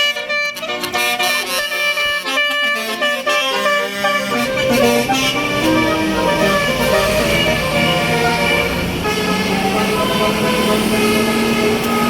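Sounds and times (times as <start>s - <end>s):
musical air horn melody: 0.0s - 12.0s.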